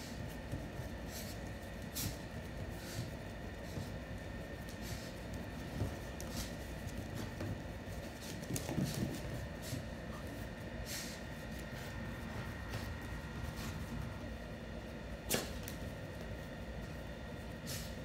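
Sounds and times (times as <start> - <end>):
animals scuffling: 0.0 - 14.9.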